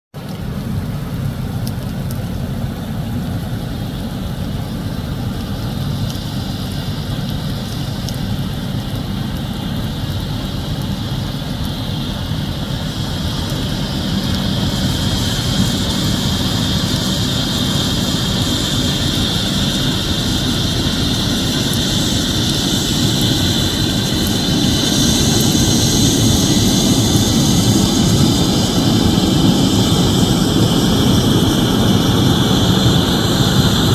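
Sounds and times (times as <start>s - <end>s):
jet engines and rushing air: 0.2s - 33.9s.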